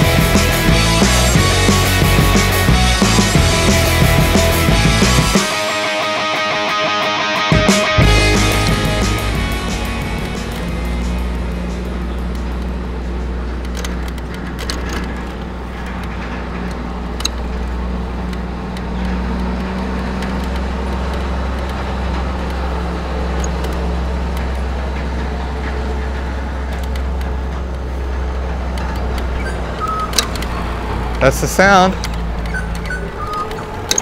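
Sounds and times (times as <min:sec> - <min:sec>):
road and tyre noise: 0:00.0 - 0:34.0.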